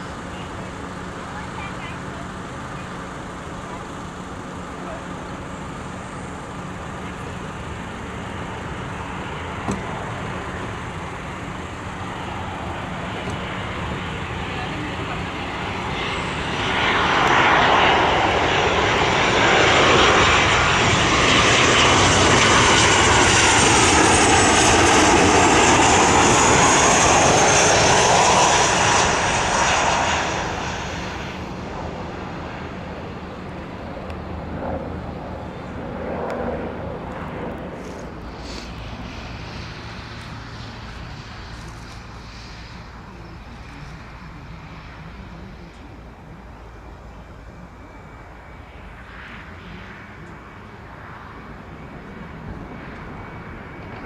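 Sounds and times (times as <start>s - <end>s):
jet engines passing with high whine: 0.0s - 54.0s.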